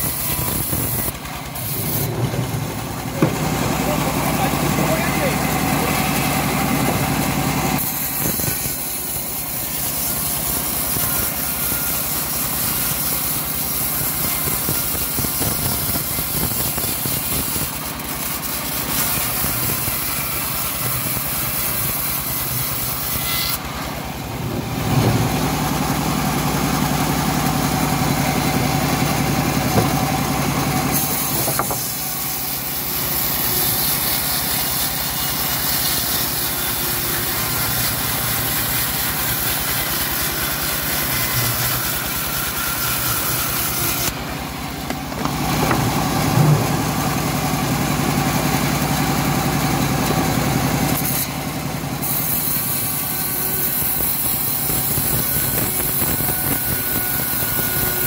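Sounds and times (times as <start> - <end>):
bandsaw cutting wood: 0.0 - 58.0.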